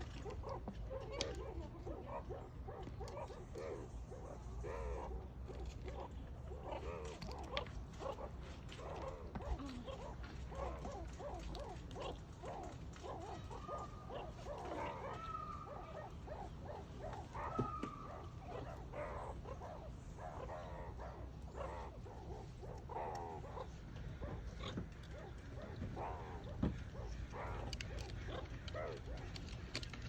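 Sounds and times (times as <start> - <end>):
long drawn-out meerkat calls: 0.0 - 29.8
meerkats chirping and squeaking: 0.0 - 29.9.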